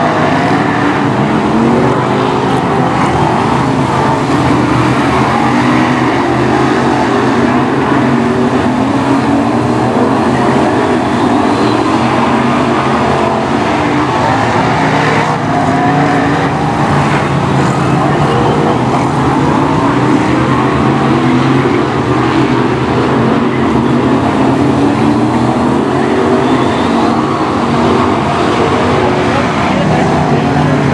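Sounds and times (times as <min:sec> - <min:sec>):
racing car engines: 0:00.0 - 0:30.9.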